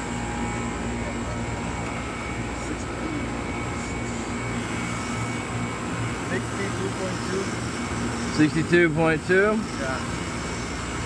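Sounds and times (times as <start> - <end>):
air conditioning unit drone: 0.0 - 11.0.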